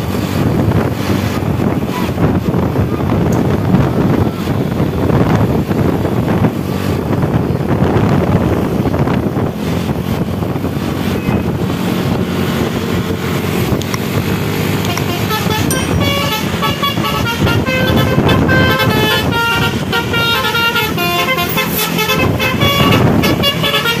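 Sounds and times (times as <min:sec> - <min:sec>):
wind buffeting microphone: 0:00.0 - 0:21.3, 0:21.9 - 0:24.0
road noise: 0:00.0 - 0:24.0
vehicle engine drone: 0:00.0 - 0:24.0.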